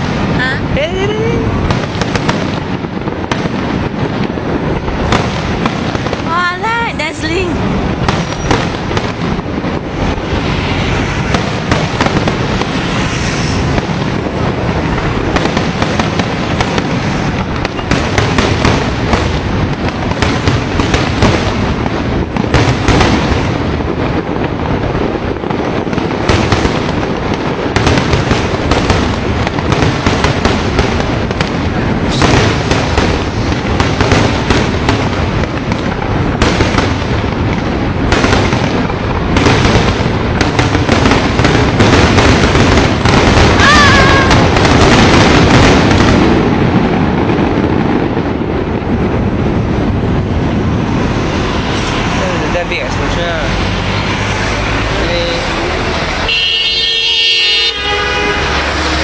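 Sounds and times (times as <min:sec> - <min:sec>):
fireworks crackling and bursting: 0:00.0 - 0:59.0
sharp firework bangs: 0:00.0 - 0:59.0.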